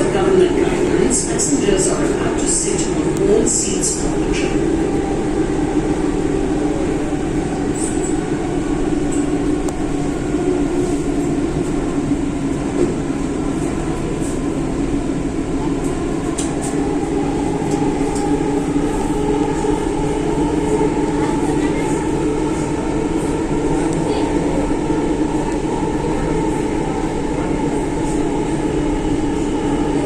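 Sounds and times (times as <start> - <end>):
metro train rumbling: 0.0 - 30.0.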